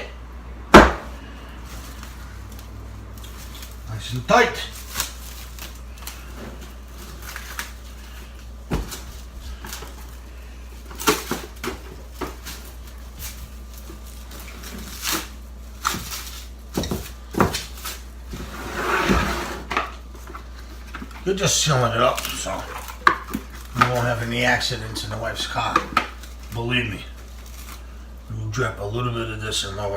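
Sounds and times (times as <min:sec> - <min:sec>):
cling wrap crinkling: 0:01.2 - 0:18.4, 0:20.0 - 0:28.2.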